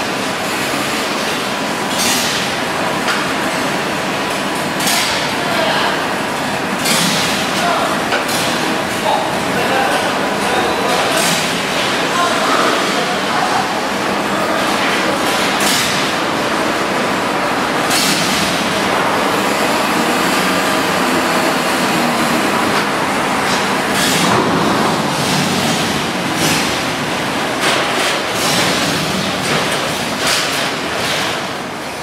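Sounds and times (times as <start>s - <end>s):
ship machinery rumble: 0.0s - 32.0s
bus diesel engine running: 1.4s - 31.0s.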